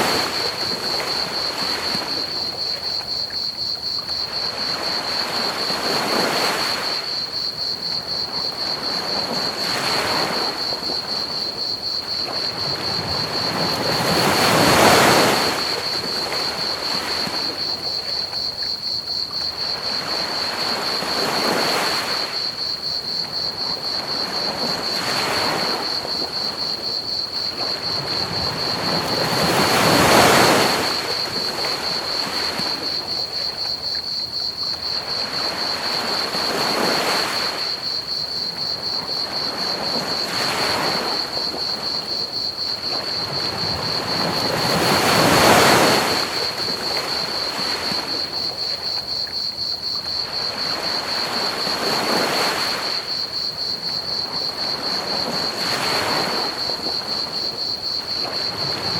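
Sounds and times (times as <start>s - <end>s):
crickets trilling: 0.0s - 58.9s
ocean waves washing onto beach: 0.0s - 58.9s.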